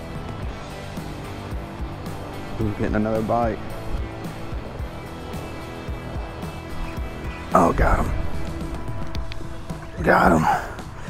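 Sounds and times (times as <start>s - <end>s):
background music: 0.0s - 11.0s
wind rumble on microphone: 1.1s - 10.1s.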